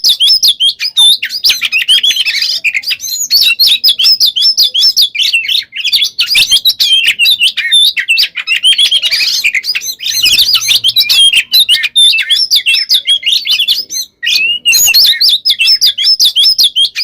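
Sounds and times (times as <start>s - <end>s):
bird singing whistled trills: 0.0s - 17.0s.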